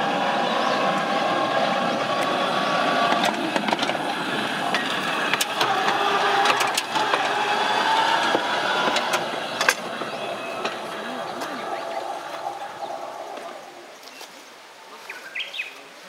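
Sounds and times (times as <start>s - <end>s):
wheels clicking on rails: 0.0s - 14.3s
electric motor and gear whine: 0.0s - 14.5s.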